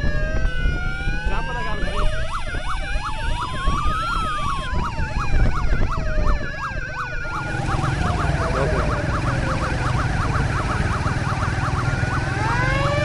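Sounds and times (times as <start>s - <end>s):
engine and traffic rumble: 0.0s - 13.0s
police siren wail: 0.0s - 13.0s
police siren yelp: 0.0s - 13.0s.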